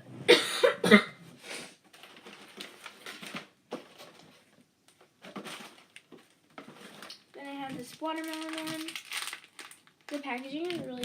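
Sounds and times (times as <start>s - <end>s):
plastic packaging crinkling: 1.9s - 11.0s.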